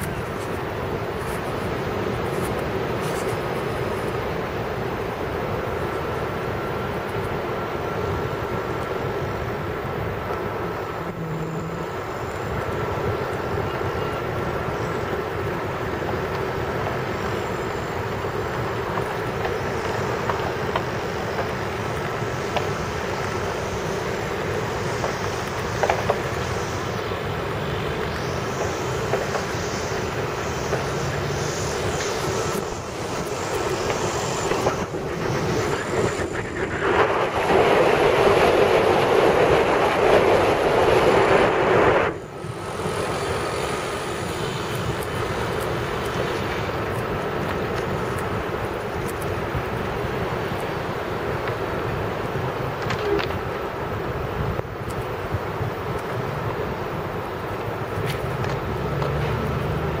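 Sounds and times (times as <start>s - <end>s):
wind noise on microphone: 0.0s - 60.0s.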